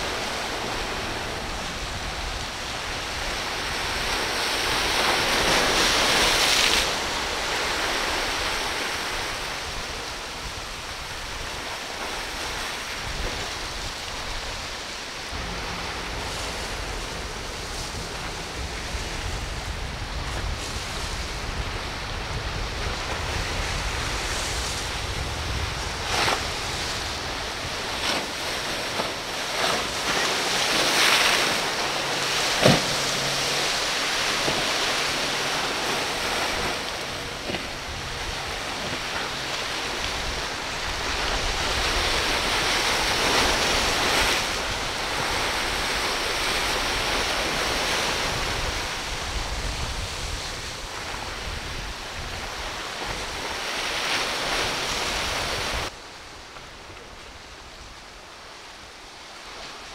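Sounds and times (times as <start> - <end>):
wind buffeting microphone: 0.0 - 56.0
surf washing: 0.0 - 59.9.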